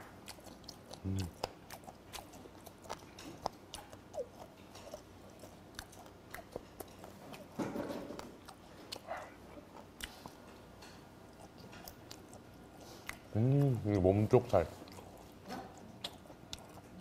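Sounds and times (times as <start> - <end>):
wet chewing and crunching: 0.0 - 17.0.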